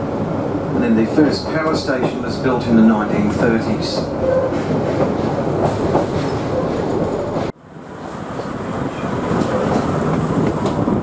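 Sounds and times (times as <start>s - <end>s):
rail motor engine: 0.0s - 11.0s
train wheels on rails: 0.0s - 11.0s.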